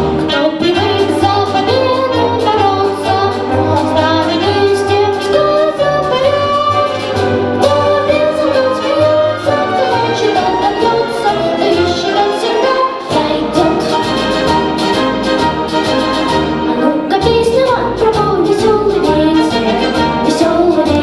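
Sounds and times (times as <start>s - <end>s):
orchestral accompaniment with brass: 0.0s - 21.0s
young person singing: 0.2s - 7.0s, 7.6s - 14.6s, 16.7s - 21.0s.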